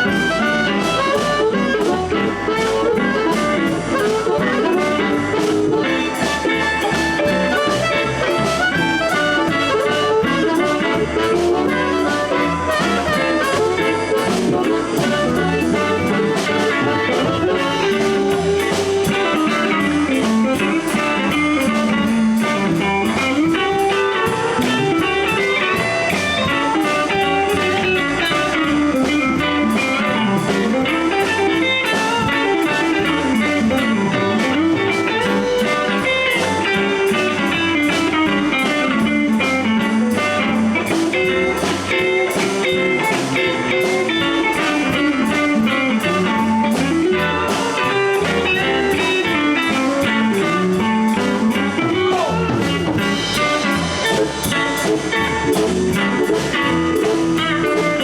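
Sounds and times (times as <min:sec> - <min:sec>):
electric guitar: 0:00.0 - 0:58.0
live blues band playing: 0:00.0 - 0:58.0.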